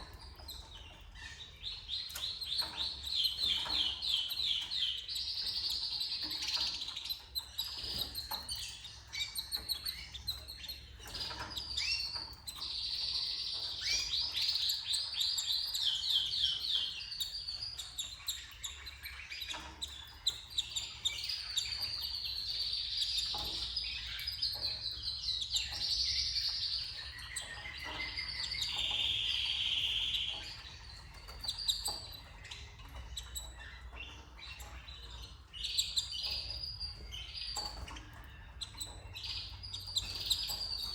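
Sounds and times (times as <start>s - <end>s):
canaries singing in trills: 0.0s - 40.9s.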